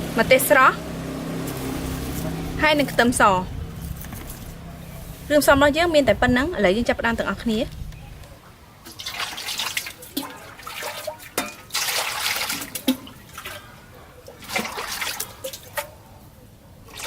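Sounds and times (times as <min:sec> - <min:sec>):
water splashing and trickling: 0:00.0 - 0:16.2, 0:16.8 - 0:17.0.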